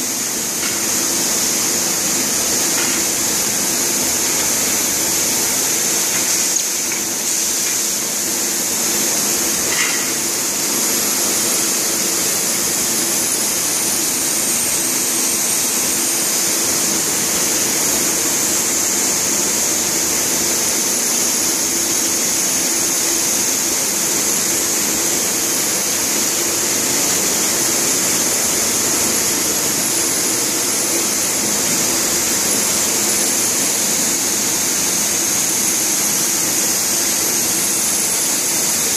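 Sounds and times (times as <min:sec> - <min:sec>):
machine humming and hissing: 0:00.0 - 0:38.9.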